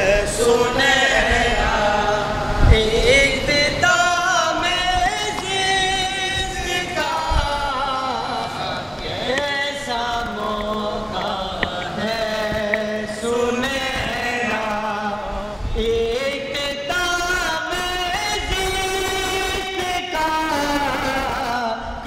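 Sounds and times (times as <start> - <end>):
men singing devotional chant: 0.0 - 22.0.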